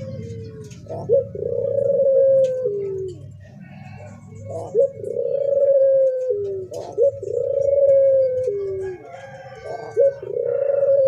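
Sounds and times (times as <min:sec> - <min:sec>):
dove cooing: 0:00.0 - 0:11.0.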